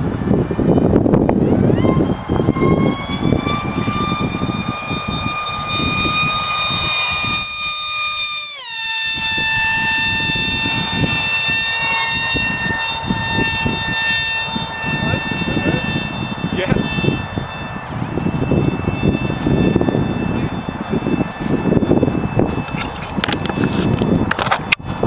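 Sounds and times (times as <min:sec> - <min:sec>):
gusty low rumble: 0:00.0 - 0:08.3, 0:09.1 - 0:25.0
model airplane motor whining: 0:00.0 - 0:25.0.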